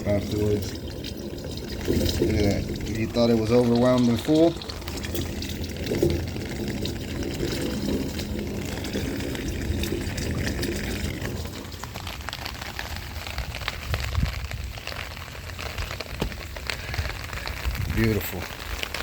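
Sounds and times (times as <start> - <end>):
rain pattering: 0.0 - 19.0
water pouring into drain: 0.0 - 19.0.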